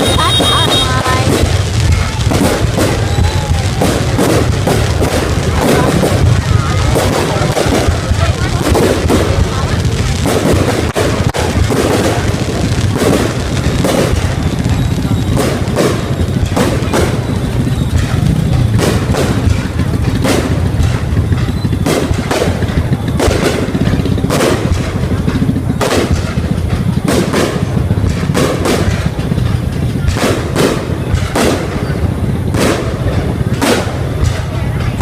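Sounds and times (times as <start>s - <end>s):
fireworks booms: 0.0s - 35.0s
steady low rumble: 0.0s - 35.0s.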